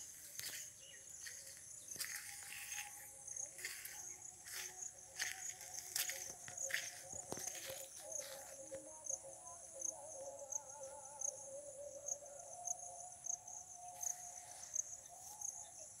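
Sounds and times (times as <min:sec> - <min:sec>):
high insect trill: 0:00.0 - 0:16.0
insects chirping: 0:00.0 - 0:16.0.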